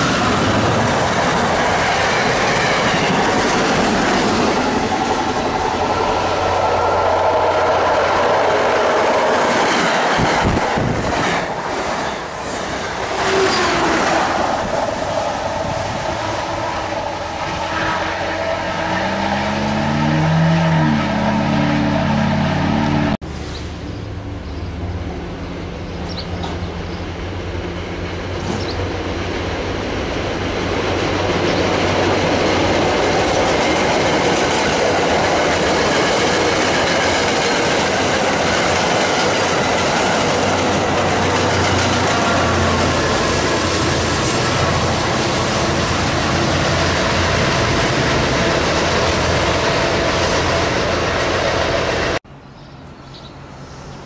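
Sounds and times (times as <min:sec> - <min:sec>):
train wheels on rails: 0:00.0 - 0:23.9, 0:26.0 - 0:52.2
diesel locomotive passing: 0:00.0 - 0:54.0.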